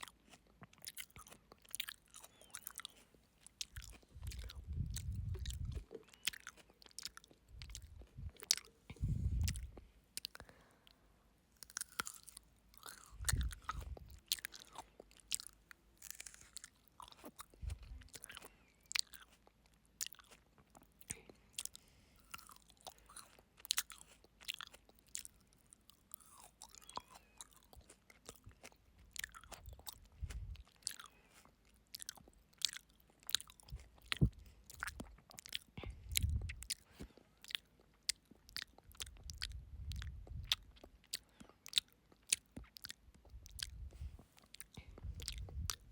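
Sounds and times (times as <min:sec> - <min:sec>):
chewing frozen grapes: 0:00.0 - 0:45.9.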